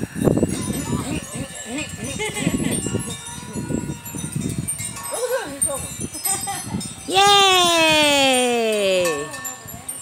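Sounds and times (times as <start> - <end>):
thin high ringing tones: 0.0 - 10.0.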